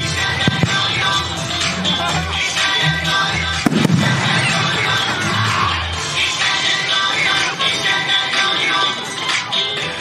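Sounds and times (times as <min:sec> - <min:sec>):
pop song over loudspeakers: 0:00.0 - 0:10.0.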